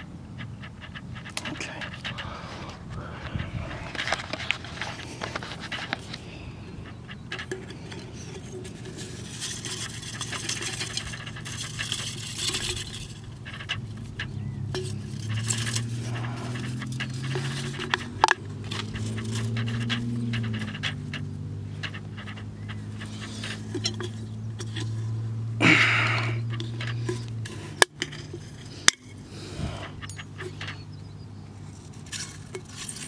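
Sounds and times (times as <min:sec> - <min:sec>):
dry twigs rustling: 0:00.3 - 0:33.0
can scraping and clinking: 0:03.8 - 0:30.8, 0:31.6 - 0:33.0.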